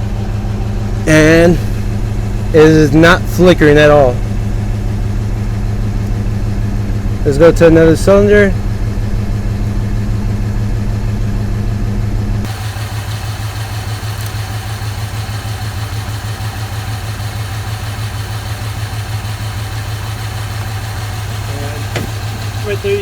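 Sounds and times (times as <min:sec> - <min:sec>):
engine idling with misfire: 0:00.0 - 0:23.0.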